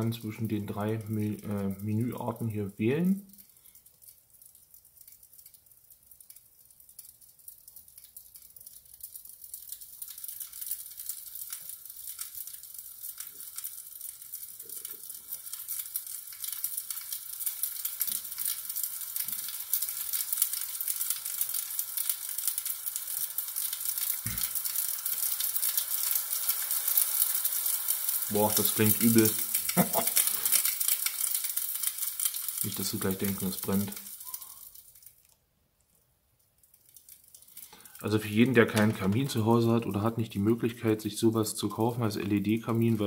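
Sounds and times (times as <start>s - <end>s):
wood fire crackling on television: 0.0s - 43.0s.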